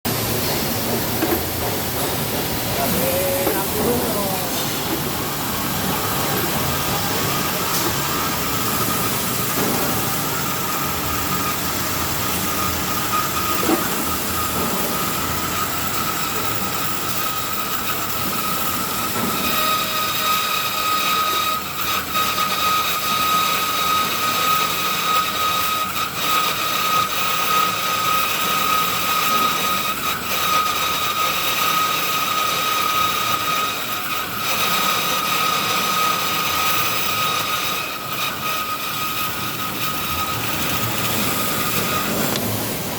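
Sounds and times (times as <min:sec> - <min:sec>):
pipe cutting machine whining: 0:00.1 - 0:42.9.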